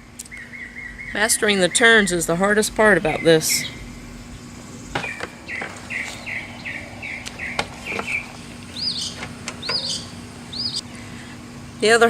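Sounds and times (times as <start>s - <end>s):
faint steady hum: 0.0s - 12.0s
birds chirping: 0.1s - 10.8s.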